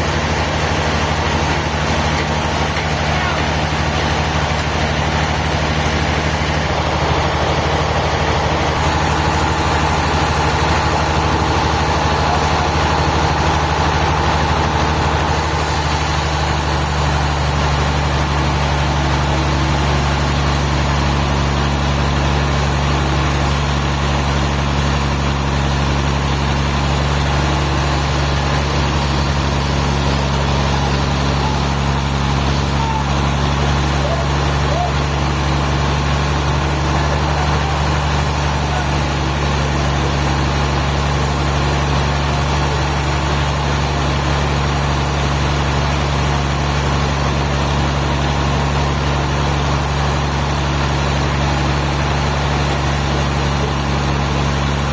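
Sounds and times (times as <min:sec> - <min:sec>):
heavy engine idling: 0:00.0 - 0:54.9.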